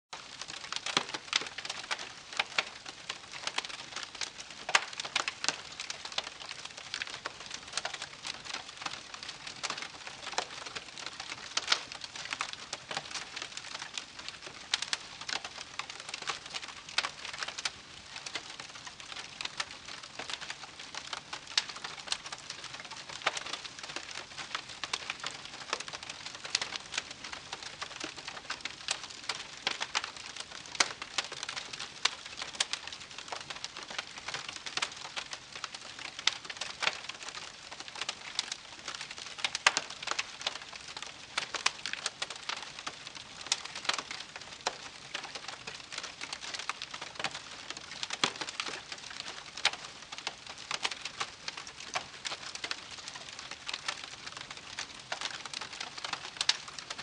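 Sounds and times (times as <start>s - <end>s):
campfire crackling: 0.2s - 57.0s.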